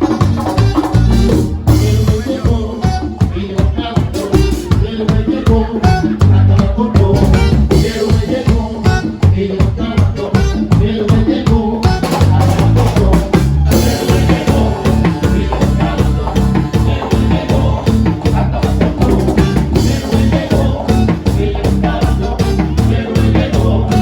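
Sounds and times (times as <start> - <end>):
driving drum beat: 0.0 - 24.0
upbeat band music: 0.0 - 24.0.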